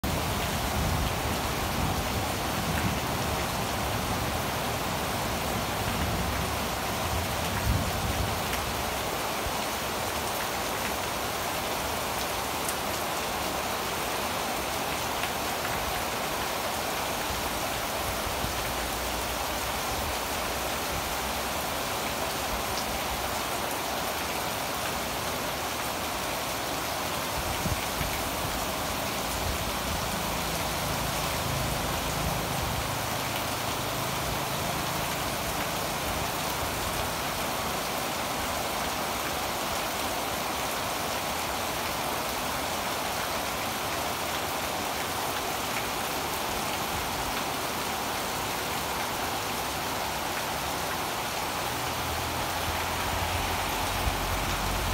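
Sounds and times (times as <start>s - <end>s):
heavy rain on leaves: 0.0s - 54.9s.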